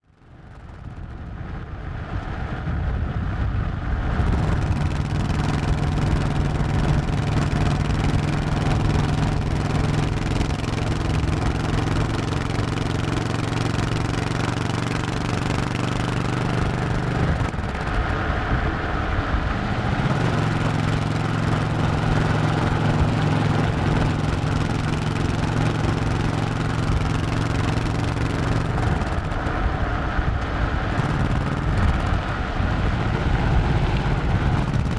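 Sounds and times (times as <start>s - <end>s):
motorcycle engine cruising: 3.3s - 34.9s.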